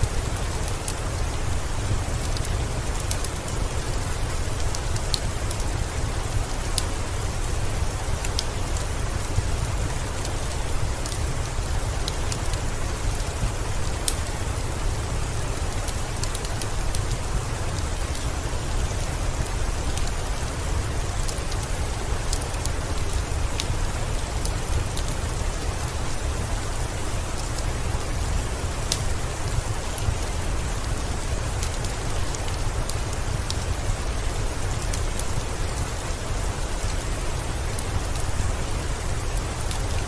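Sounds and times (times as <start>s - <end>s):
heavy rain: 0.0s - 40.0s
wood fire crackling: 0.0s - 40.0s.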